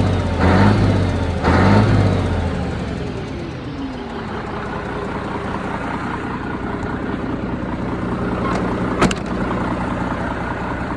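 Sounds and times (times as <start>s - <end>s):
diesel engine running at low revs: 0.0s - 10.9s.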